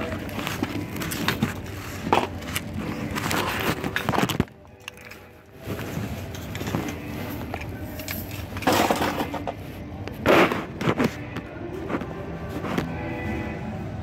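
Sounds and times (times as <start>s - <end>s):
bags rustling: 0.0s - 11.4s.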